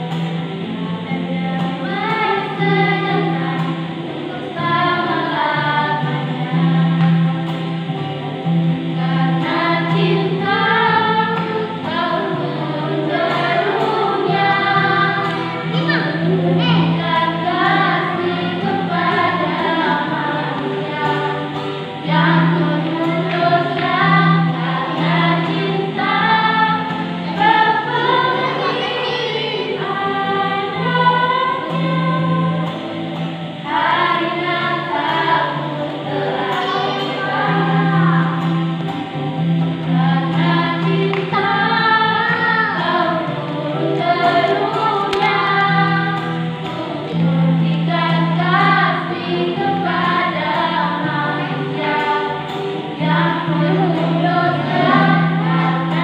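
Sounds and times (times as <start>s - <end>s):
acoustic guitar: 0.0s - 56.0s
women singing together: 0.0s - 56.0s.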